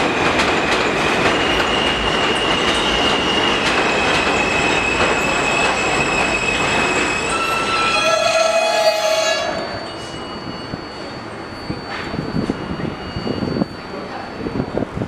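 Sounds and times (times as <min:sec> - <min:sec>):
train rolling noise: 0:00.0 - 0:15.0
high wheel squeal: 0:00.9 - 0:14.8.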